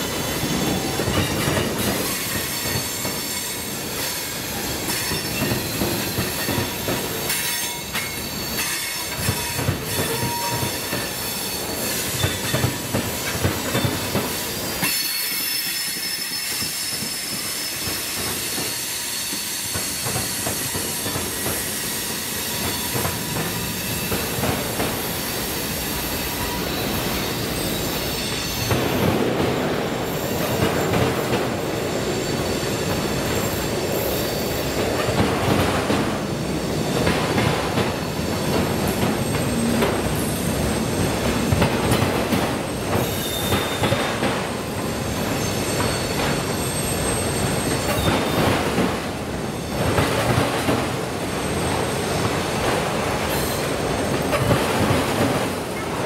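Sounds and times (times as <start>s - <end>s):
train wheels clacking on rails: 0.0s - 56.0s
train wheels squealing: 0.0s - 56.0s.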